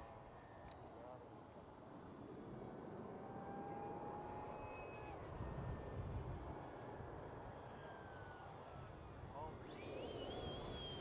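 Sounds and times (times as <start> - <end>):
high engine whine: 0.0 - 11.0.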